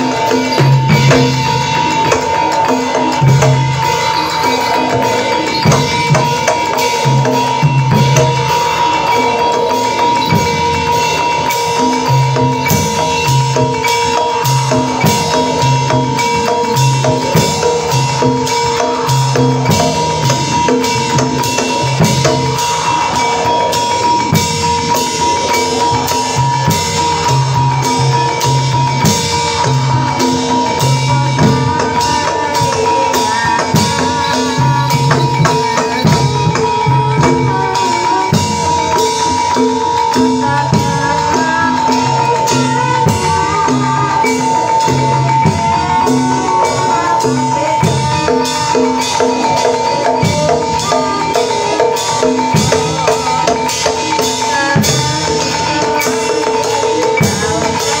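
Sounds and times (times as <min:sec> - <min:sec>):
clanging metal percussion: 0:00.0 - 0:58.0
fast driving drumming: 0:00.0 - 0:58.0
steady high tone: 0:00.0 - 0:58.0.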